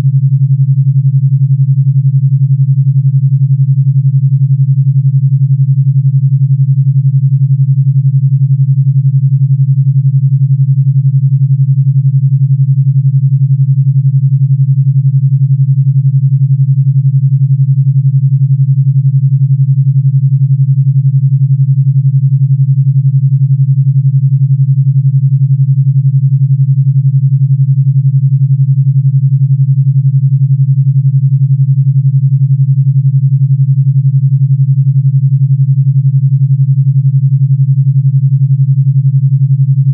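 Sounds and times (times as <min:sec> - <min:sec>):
low throbbing pure tone: 0:00.0 - 0:39.9.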